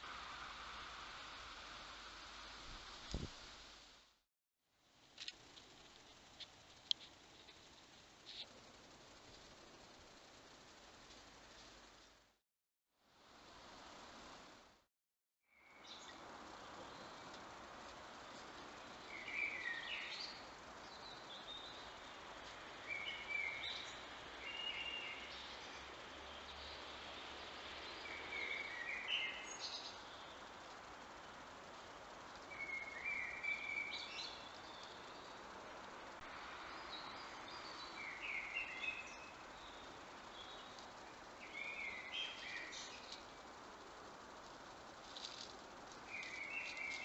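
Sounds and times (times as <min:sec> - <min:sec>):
steady background hiss: 0:00.0 - 0:12.4, 0:13.0 - 0:14.9, 0:15.5 - 0:47.0.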